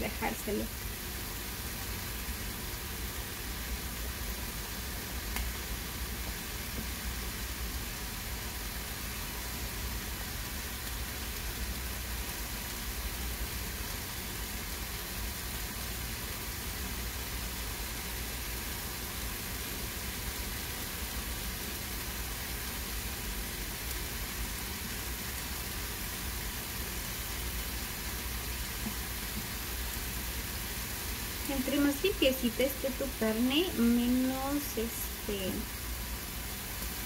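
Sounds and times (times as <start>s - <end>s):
soup boiling and bubbling: 0.7s - 32.4s, 33.2s - 37.0s.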